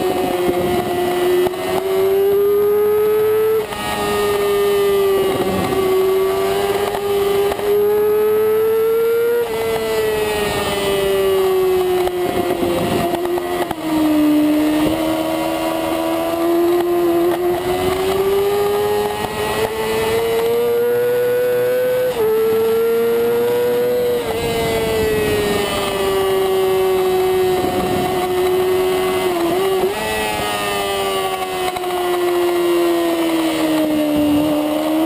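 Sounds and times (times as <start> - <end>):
motorcycle engine revving high: 0.0 - 35.0.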